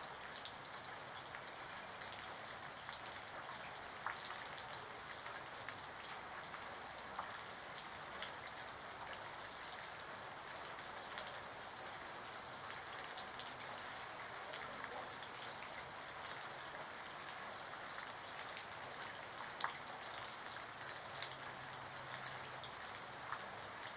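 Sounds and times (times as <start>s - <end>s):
raindrops ticking on surfaces: 0.0s - 23.9s
steady rain hiss: 0.0s - 23.9s.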